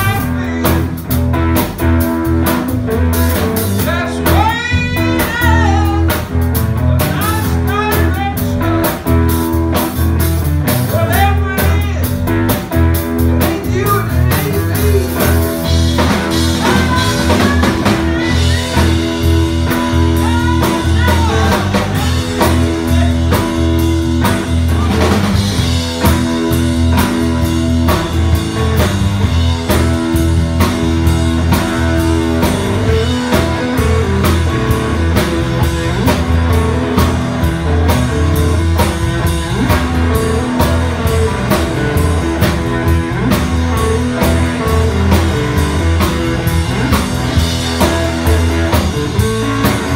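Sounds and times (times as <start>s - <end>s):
blues-rock band playing: 0.0s - 49.9s.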